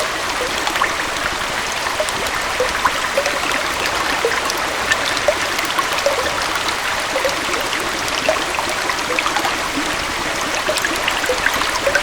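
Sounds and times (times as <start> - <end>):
waterfall and stream flowing: 0.0 - 12.0.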